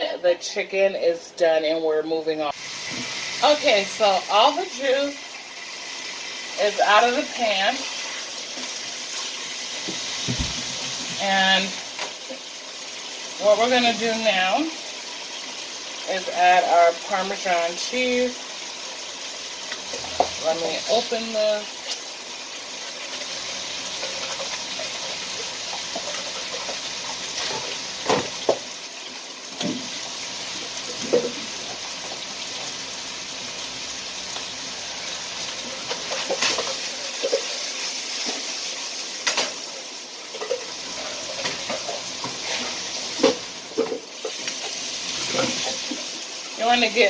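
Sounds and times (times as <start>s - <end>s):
chicken sizzling in a pan: 2.5s - 47.0s.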